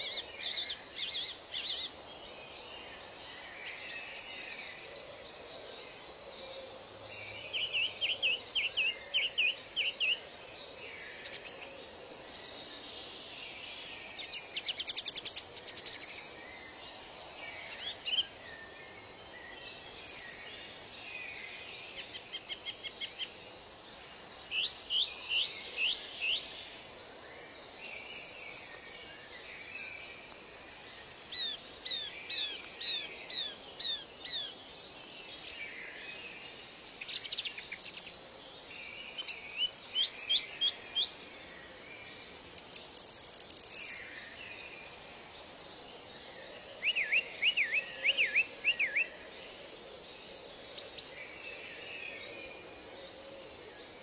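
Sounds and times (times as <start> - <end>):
birds singing: 0.0 - 54.0
steady background hiss: 0.0 - 54.0.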